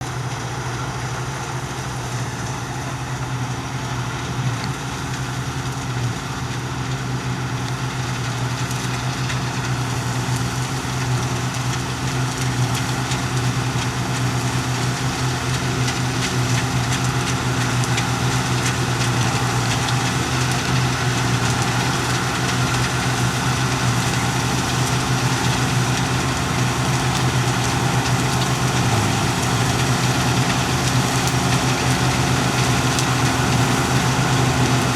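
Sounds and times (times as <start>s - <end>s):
diesel engine of farm machinery: 0.0s - 34.9s.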